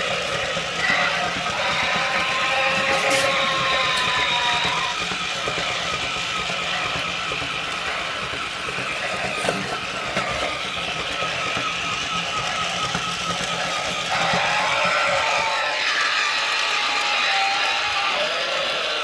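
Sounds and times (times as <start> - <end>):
toy motor whirring: 0.0 - 19.0.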